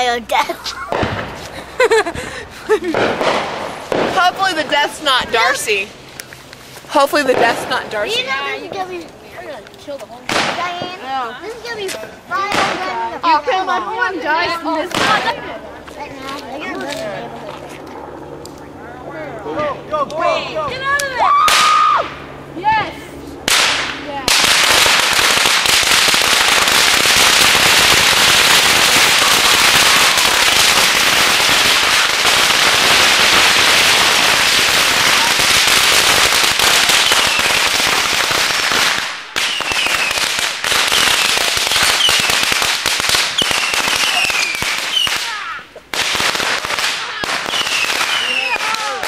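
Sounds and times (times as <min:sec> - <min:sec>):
firework crackling and popping: 0:00.0 - 0:13.2, 0:14.8 - 0:17.6, 0:20.9 - 0:22.2, 0:23.4 - 0:49.0.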